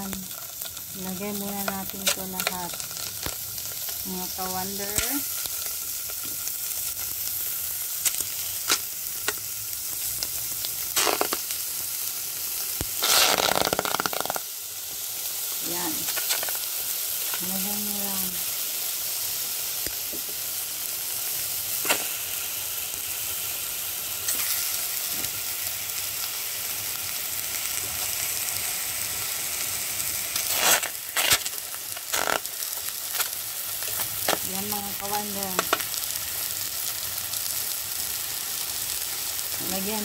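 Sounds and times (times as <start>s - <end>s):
chicken sizzling in a pot: 0.0s - 40.0s.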